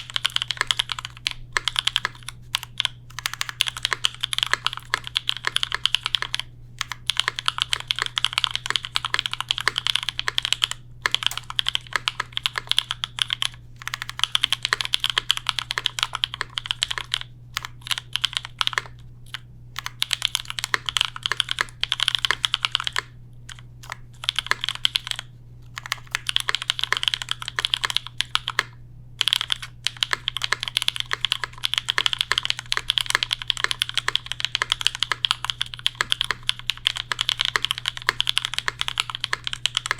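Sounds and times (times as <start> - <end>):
mechanical keyboard typing: 0.0 - 39.9
steady low hum: 0.0 - 39.9.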